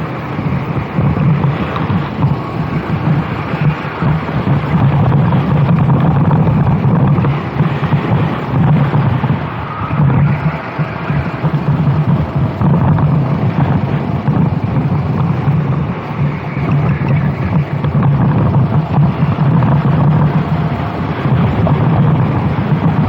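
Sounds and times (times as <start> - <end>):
racing kart engine: 0.0 - 23.0
wind buffeting on microphone: 0.0 - 23.0.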